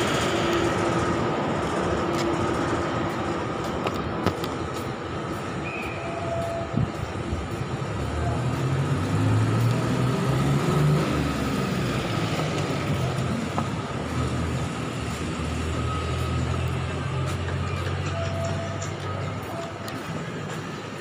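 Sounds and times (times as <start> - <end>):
outdoor traffic noise: 0.0 - 21.0
vehicle engine humming: 0.0 - 21.0.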